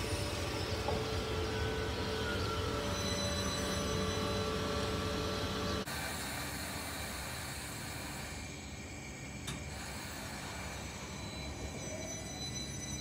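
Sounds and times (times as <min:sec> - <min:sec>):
train low hum and rumble: 0:00.0 - 0:13.0.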